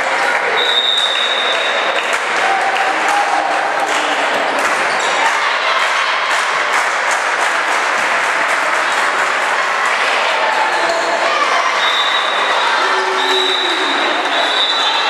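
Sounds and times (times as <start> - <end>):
crowd voices and cheering: 0.0 - 15.0
people clapping: 0.0 - 15.0.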